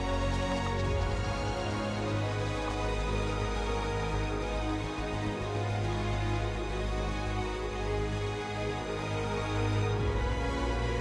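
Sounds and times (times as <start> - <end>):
soft instrumental soundtrack: 0.0 - 11.0
steady low bass: 0.0 - 11.0.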